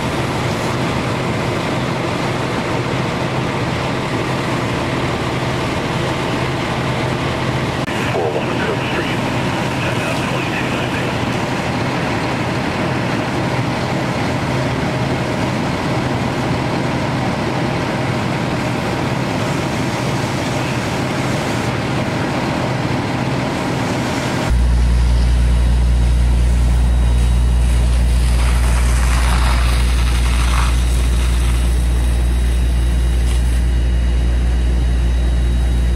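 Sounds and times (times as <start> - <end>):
deep steady hum: 0.0 - 35.9
fire engines droning: 0.0 - 35.9.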